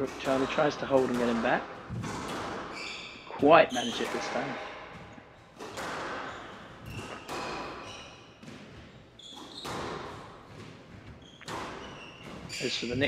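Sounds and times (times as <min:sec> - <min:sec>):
shoes squeaking on wooden floor: 0:00.0 - 0:13.0
squash ball hitting rackets and walls: 0:00.0 - 0:13.0.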